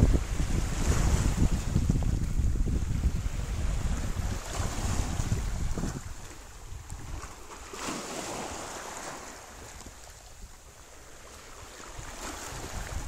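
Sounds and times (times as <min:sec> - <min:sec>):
small waves washing over sand: 0:00.0 - 0:13.0
wind rumbling on microphone: 0:00.0 - 0:13.0.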